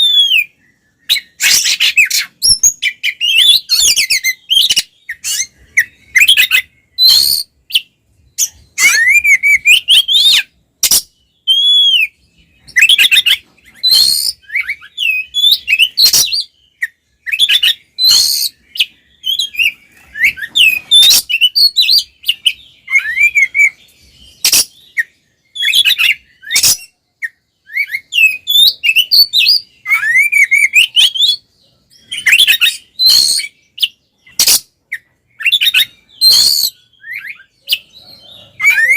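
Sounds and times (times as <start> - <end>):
songbird whistles and harsh rasps: 0.0 - 38.9.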